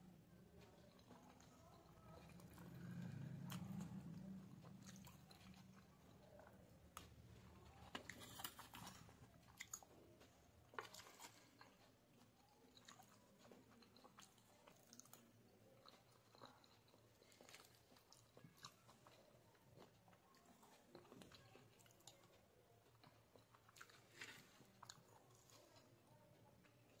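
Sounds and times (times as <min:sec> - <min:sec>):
close chewing of pasta: 0:00.0 - 0:27.0.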